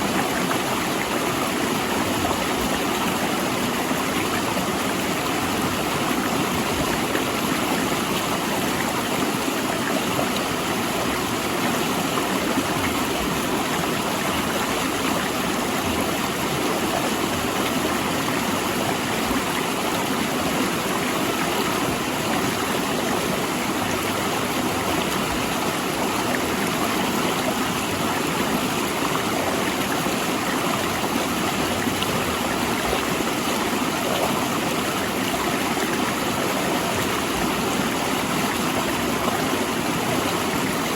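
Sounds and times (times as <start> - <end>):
river rushing between rocks: 0.0 - 40.9.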